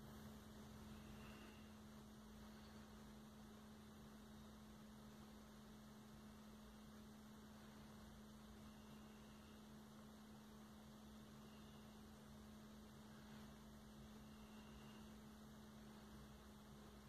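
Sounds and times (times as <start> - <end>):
faint electrical hum: 0.0 - 17.0
low hiss: 0.0 - 17.0.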